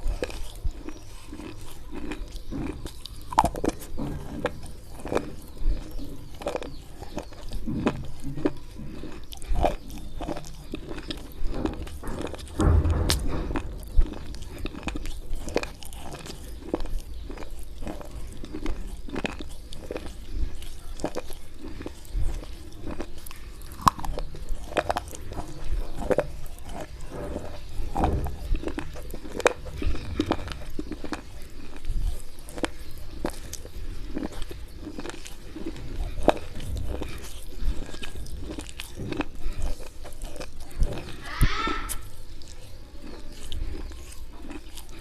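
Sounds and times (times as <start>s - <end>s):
chalk pencils crunching when chewed: 0.0s - 45.0s.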